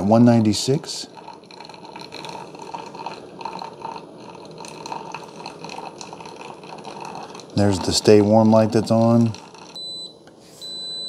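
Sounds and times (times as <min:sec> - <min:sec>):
coffee trickling into carafe: 0:00.0 - 0:10.1.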